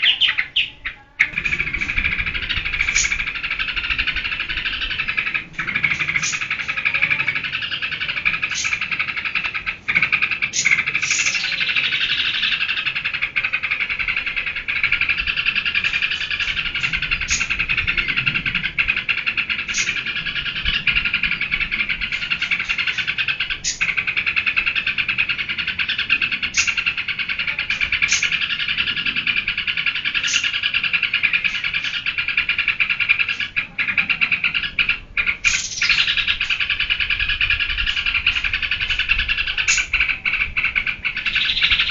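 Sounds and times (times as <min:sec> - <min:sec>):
bird rapid chattering song: 0:00.0 - 0:41.9.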